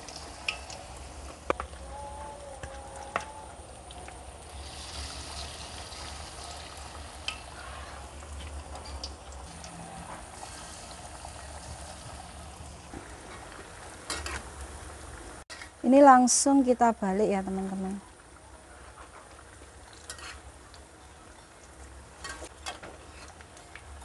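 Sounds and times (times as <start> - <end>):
batter frying in hot oil: 0.0 - 24.0.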